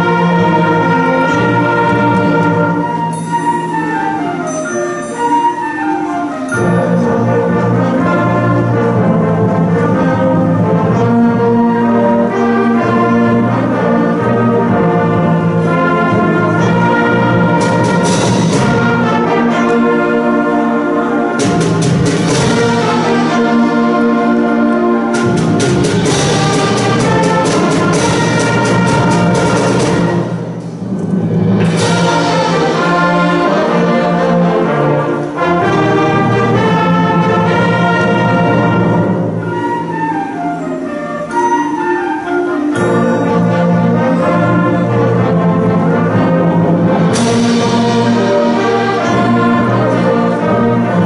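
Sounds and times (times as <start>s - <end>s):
brass and woodwind chords: 0.0s - 51.0s
bright percussion shimmers: 0.8s - 8.6s, 15.0s - 36.8s, 37.6s - 51.0s.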